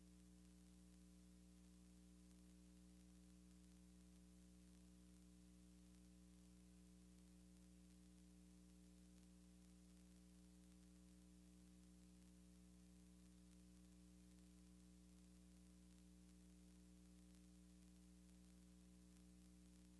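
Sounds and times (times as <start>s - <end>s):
faint electrical hum with hiss: 0.0s - 19.9s.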